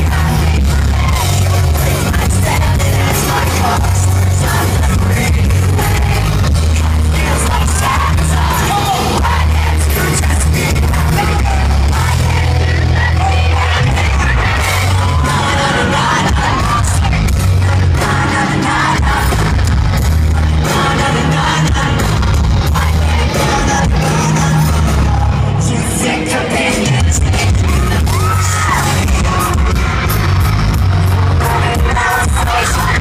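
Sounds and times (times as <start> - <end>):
audience yelling: 0.0 - 4.9, 7.2 - 19.6, 22.9 - 33.0
person singing: 0.0 - 30.2, 31.1 - 33.0
live pop-punk band: 0.0 - 33.0.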